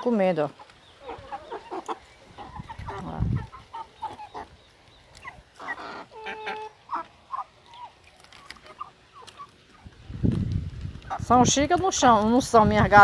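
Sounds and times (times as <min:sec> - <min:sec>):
hens clucking: 0:00.0 - 0:10.2, 0:10.8 - 0:12.3.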